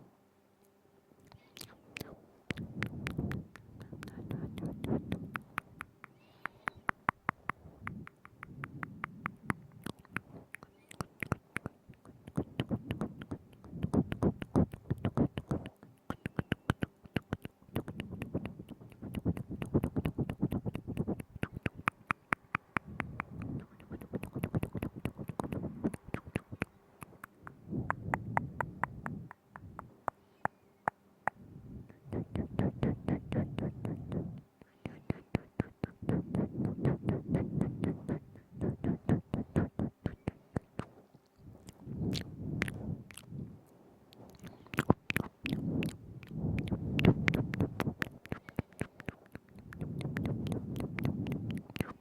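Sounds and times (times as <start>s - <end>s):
wet mouth clicks and smacks: 1.2s - 43.4s, 44.1s - 52.0s.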